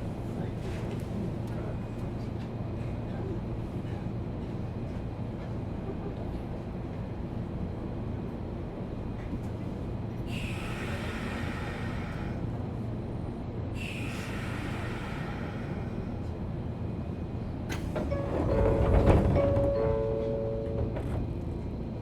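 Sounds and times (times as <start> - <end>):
train interior hum and rumble: 0.0 - 22.0.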